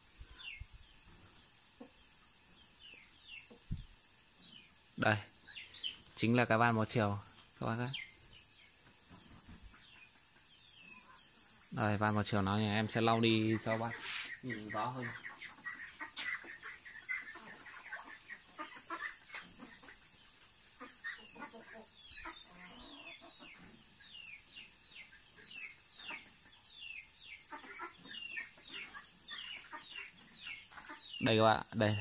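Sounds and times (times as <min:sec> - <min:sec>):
bird chirping: 0:00.0 - 0:32.0.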